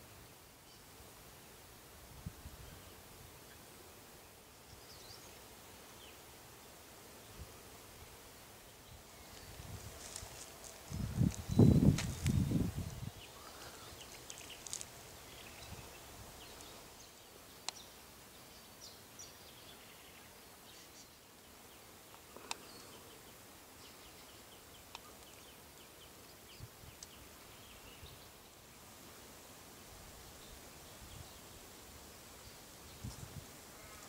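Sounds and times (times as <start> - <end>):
low steady hiss: 0.0 - 34.0.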